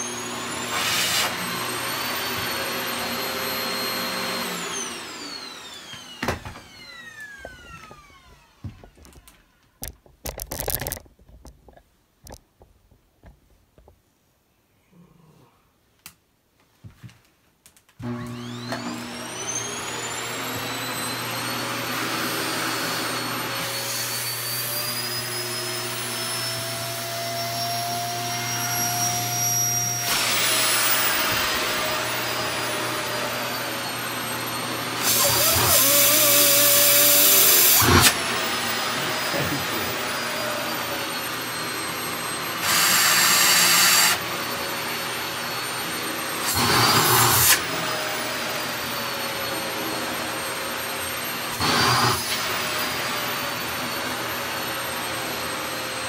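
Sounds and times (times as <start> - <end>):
stick vacuum cleaner running: 0.0 - 11.0, 18.0 - 56.0.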